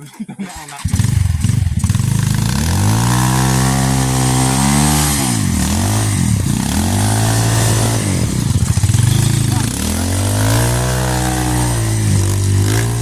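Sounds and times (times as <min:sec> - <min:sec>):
motorcycle engine revving: 0:00.6 - 0:13.0.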